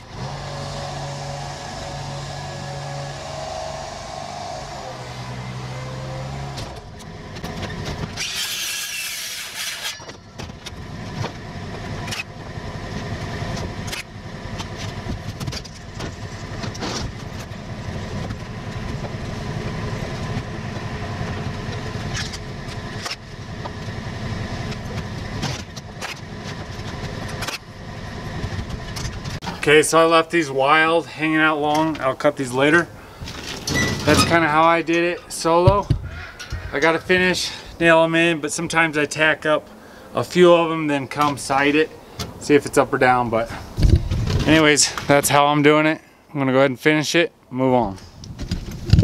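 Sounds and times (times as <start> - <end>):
scissor lift rumbling: 0.0 - 45.0.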